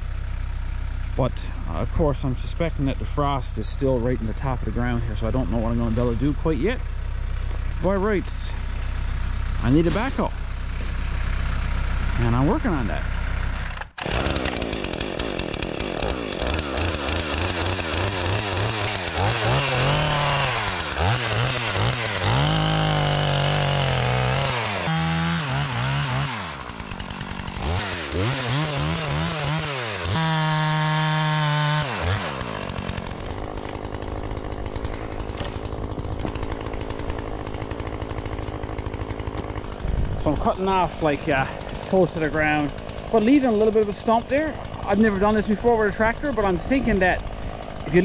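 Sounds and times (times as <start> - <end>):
chainsaw cutting and revving: 0.0 - 48.0.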